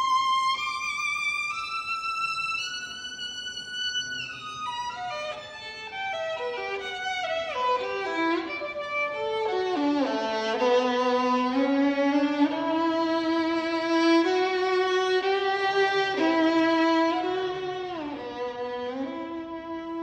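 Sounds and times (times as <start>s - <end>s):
solo violin played with bow: 0.0s - 20.0s.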